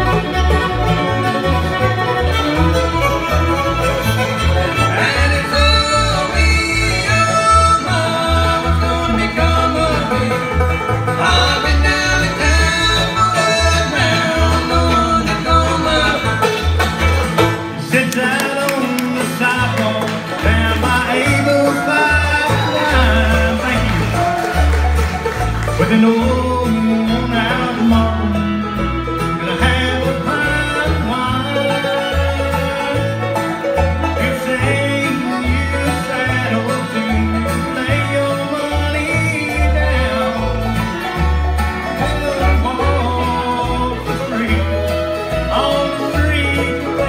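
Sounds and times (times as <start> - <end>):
banjo rolls: 0.0 - 47.0
bowed fiddle: 0.0 - 47.0
strummed acoustic guitar: 0.0 - 47.0
upright bass plucking: 0.0 - 47.0.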